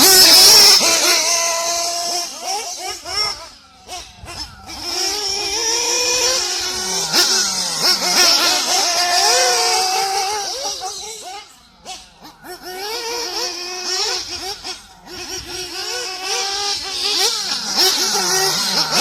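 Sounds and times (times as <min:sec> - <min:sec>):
small nitro engine whining: 0:00.0 - 0:19.0.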